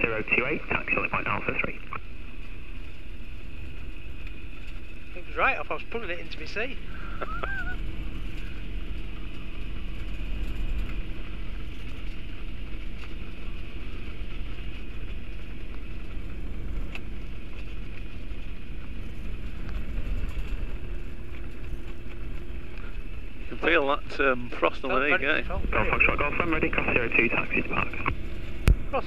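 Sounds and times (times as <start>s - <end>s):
microlight engine and propeller rumble: 0.0s - 29.0s.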